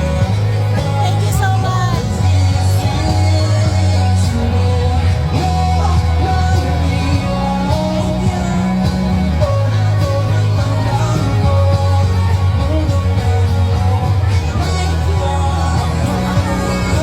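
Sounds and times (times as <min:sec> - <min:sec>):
long held bass notes: 0:00.0 - 0:17.0
person singing: 0:00.0 - 0:17.0
rock music: 0:00.0 - 0:17.0.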